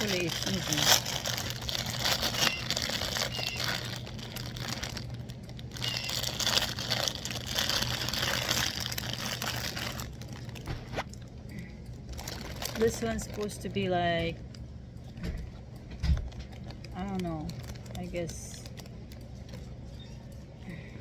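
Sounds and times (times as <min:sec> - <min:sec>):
packaging crinkling: 0:00.0 - 0:20.4.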